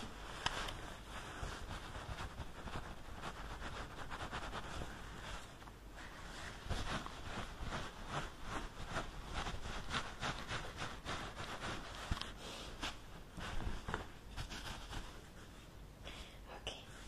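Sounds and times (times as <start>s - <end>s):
towel rubbing wet hair: 0.0s - 15.7s.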